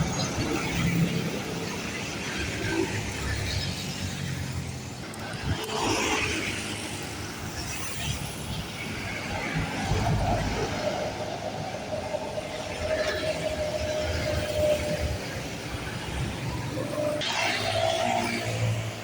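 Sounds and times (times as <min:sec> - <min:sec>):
diesel buses running: 0:00.0 - 0:19.0.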